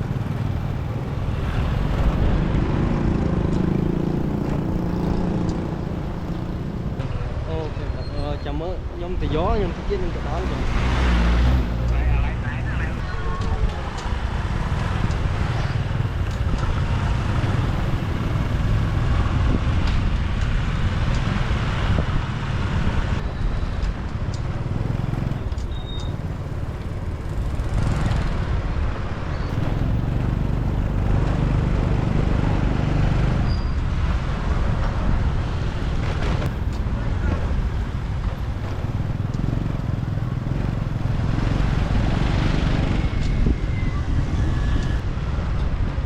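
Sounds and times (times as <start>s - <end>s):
motorbike engine and tyre rumble: 0.0s - 46.0s
traffic: 0.0s - 46.0s.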